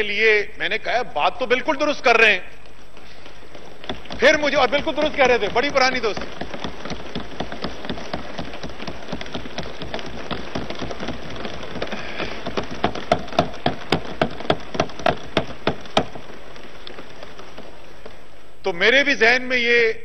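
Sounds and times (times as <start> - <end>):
hands thumping wooden desks: 2.1 - 18.4
louder single thumps: 2.2 - 18.3.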